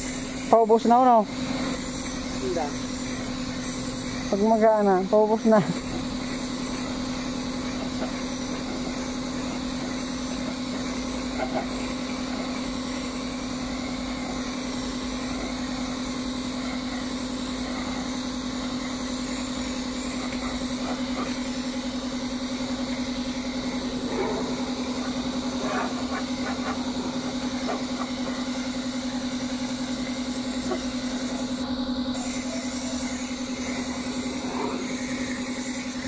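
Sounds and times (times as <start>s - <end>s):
small engine running steadily: 0.0s - 36.0s.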